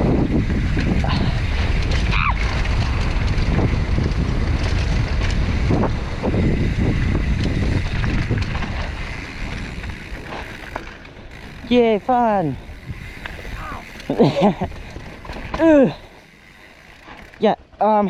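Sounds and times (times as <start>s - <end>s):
wind buffeting microphone: 0.0s - 17.4s
bike knocking and rattling: 0.0s - 18.0s
bike tyre noise on dirt: 0.0s - 18.0s.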